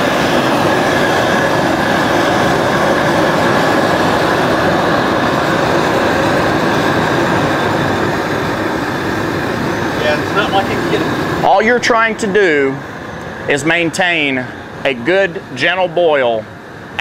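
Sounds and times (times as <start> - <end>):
pot boiling: 0.0 - 15.6
gas jet burner roaring: 0.0 - 17.0.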